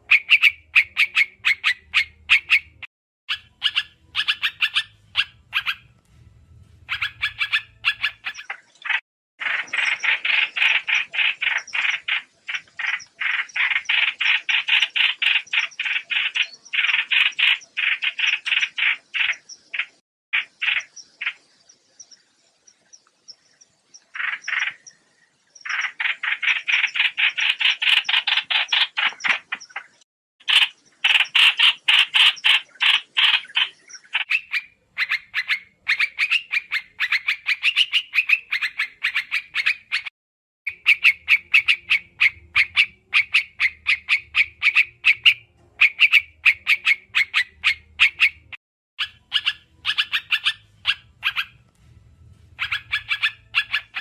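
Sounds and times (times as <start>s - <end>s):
bird rapid chattering call: 0.0s - 5.9s, 6.9s - 21.4s, 24.0s - 25.0s, 25.6s - 40.1s, 40.7s - 51.6s, 52.6s - 54.0s.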